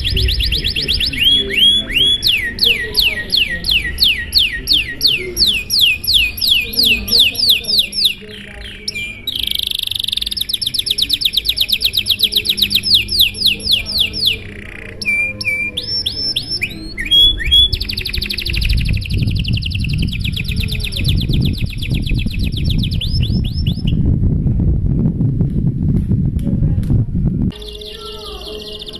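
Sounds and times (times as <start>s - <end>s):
canary singing trills: 0.0s - 24.0s, 27.5s - 28.9s
low rumbling noise: 0.0s - 28.9s.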